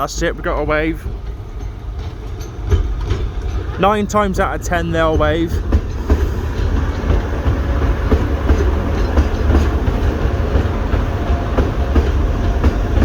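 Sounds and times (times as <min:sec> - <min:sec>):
train rumbling: 0:00.0 - 0:13.0
wheels clicking over rail joints: 0:00.0 - 0:13.0.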